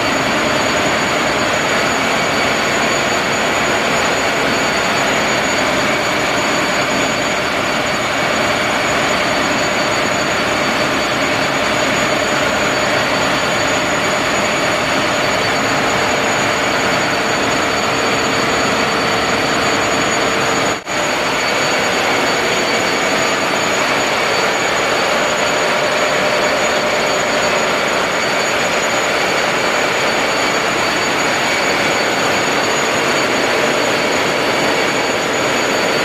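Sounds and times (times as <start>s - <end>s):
engine-room machinery noise: 0.0s - 36.0s
machinery whining tones: 0.0s - 36.0s.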